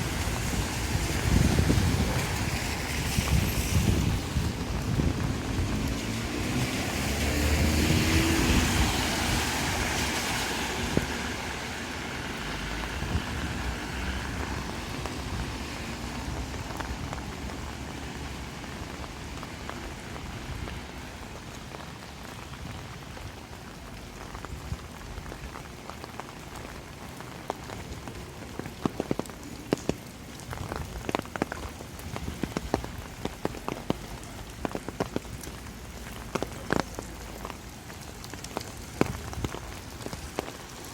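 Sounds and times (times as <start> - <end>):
heavy raindrops tapping: 0.0 - 40.9
steady rain: 0.0 - 40.9.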